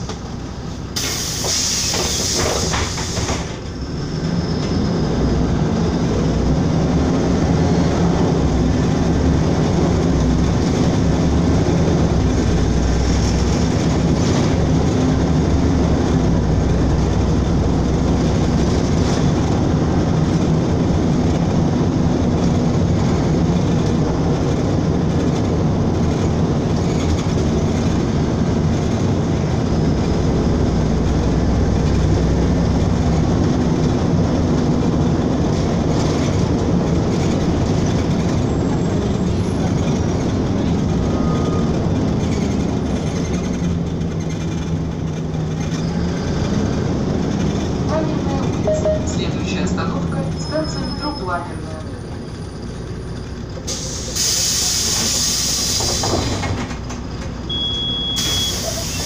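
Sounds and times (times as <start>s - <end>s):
bus diesel engine hum: 0.0s - 59.0s
road noise: 0.0s - 59.0s.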